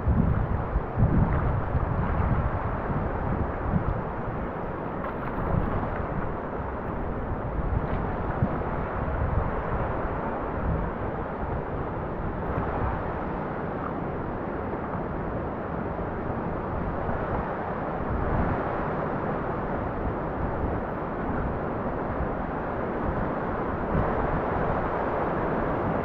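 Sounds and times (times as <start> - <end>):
wind buffeting microphone: 0.0 - 26.0
river water rushing: 2.2 - 26.0.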